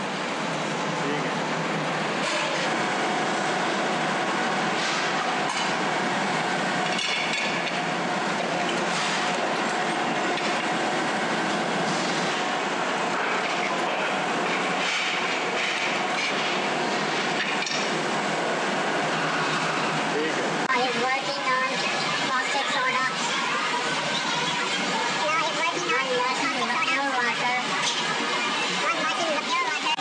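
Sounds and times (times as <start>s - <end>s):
metal-working machinery din: 0.0s - 30.0s.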